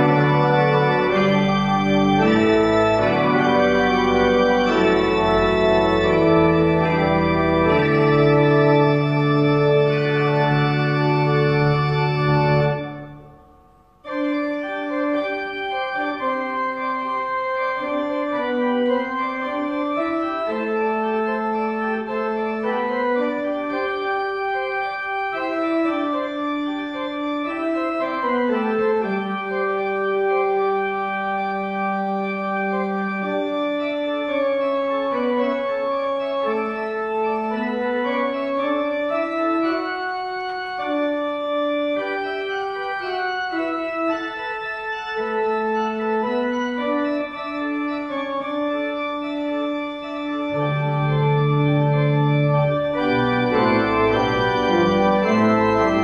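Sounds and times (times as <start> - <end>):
church organ playing a hymn: 0.0 - 56.0.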